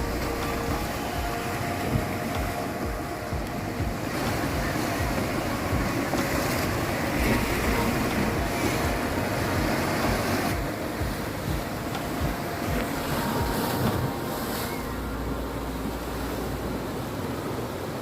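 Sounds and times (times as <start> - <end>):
waves breaking against rocks: 0.0 - 18.0
wind rumble on microphone: 0.0 - 18.0.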